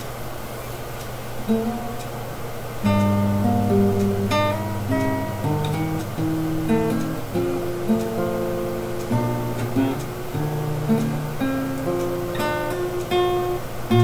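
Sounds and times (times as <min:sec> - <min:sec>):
acoustic guitar strumming chords: 0:01.4 - 0:14.0.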